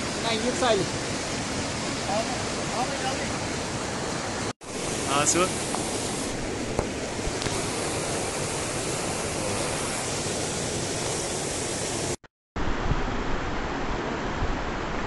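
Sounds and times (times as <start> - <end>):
river rushing over rapids: 0.0 - 12.2.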